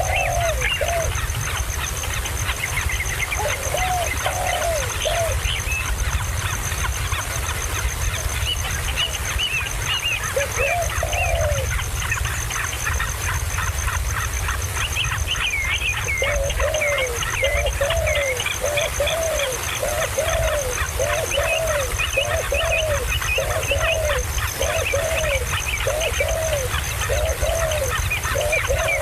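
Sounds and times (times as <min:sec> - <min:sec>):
birds high curving chirps: 0:00.0 - 0:29.0
birds low arched calls: 0:00.0 - 0:29.0.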